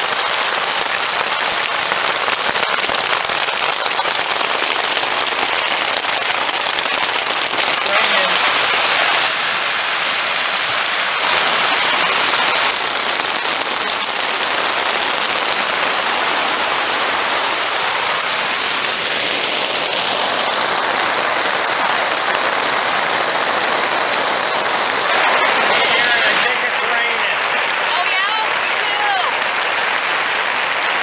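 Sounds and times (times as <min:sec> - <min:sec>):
heavy rain on tent: 0:00.0 - 0:31.0.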